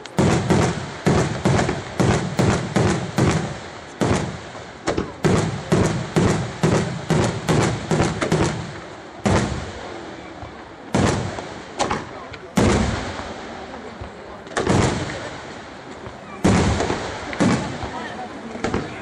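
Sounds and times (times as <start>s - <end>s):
firework shells bursting: 0.0s - 19.0s.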